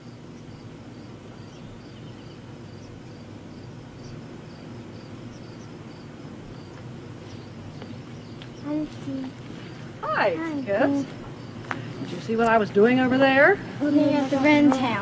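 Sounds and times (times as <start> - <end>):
nestlings chirping: 0.0 - 15.0.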